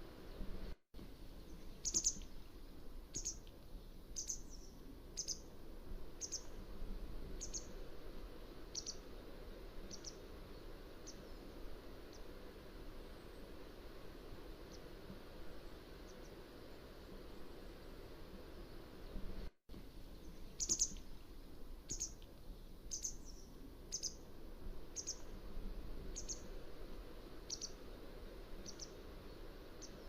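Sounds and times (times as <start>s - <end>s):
faint background noise: 0.0s - 30.0s.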